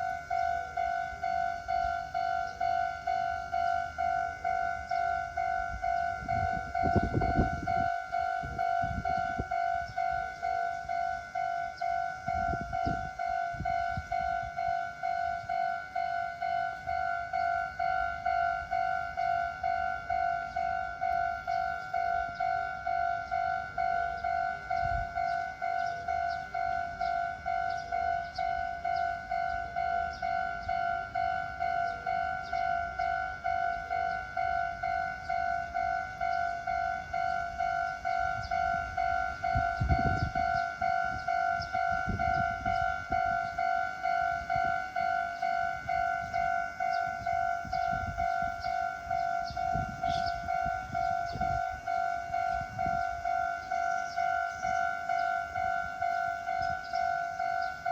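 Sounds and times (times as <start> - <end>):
level crossing warning bell: 0.0 - 57.9
train passing rumble: 0.0 - 57.9.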